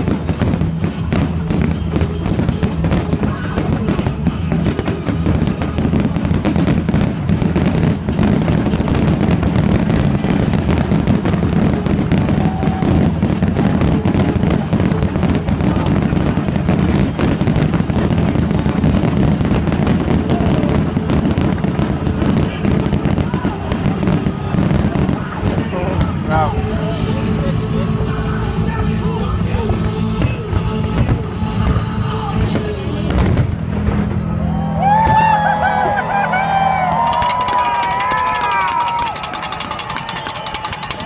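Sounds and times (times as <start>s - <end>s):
fireworks bangs and crackles: 0.0s - 41.0s
music playing: 0.0s - 41.0s.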